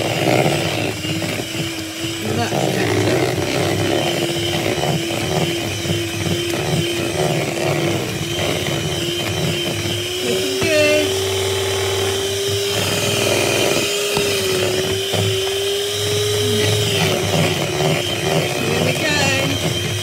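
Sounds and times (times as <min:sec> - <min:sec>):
electric hand mixer whining: 0:00.0 - 0:20.0.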